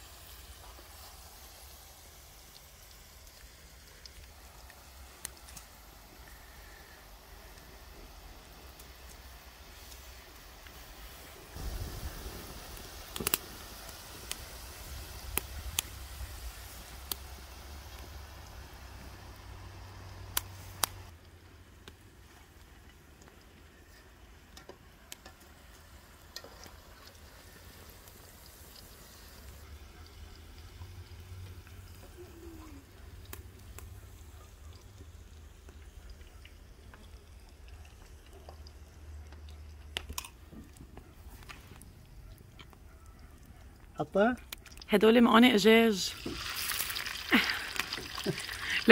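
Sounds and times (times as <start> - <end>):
oil sizzling in a pan: 0.0 - 21.2, 22.1 - 39.8, 45.9 - 48.9
sharp crackles and pops: 0.0 - 48.9.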